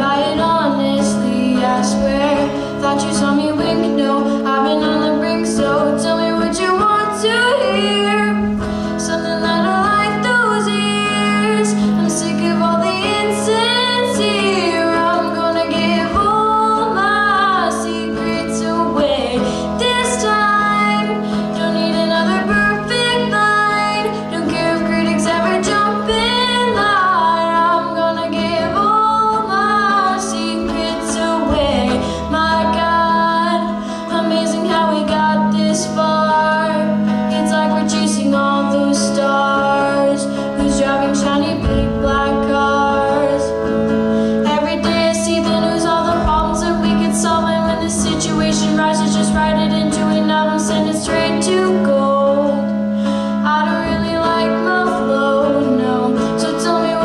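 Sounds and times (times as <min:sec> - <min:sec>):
electric guitar: 0:00.0 - 0:57.0
girl singing into microphone: 0:00.0 - 0:57.0.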